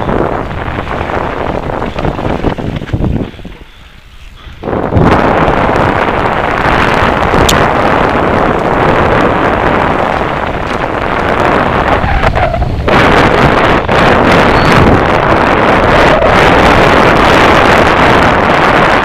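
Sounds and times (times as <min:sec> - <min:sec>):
bike tyres rumbling on trail: 0:00.0 - 0:19.0
wind rushing over microphone: 0:00.0 - 0:19.0.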